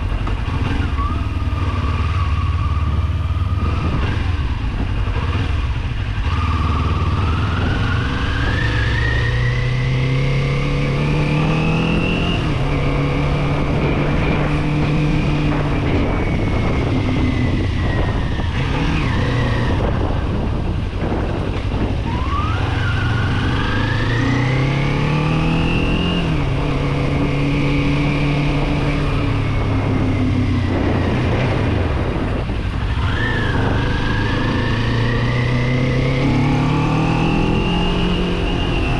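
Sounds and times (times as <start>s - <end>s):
motorcycle engine revving: 0.0s - 38.9s
wind rush: 2.7s - 10.3s, 10.9s - 38.9s.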